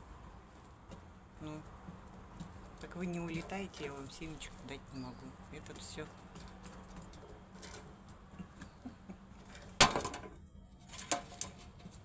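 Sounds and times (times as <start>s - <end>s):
pigeons pecking and rustling: 0.0s - 9.8s, 10.4s - 12.0s.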